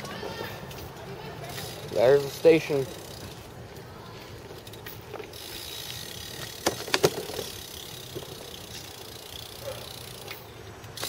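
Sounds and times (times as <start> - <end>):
bike riding over concrete: 0.0 - 11.0.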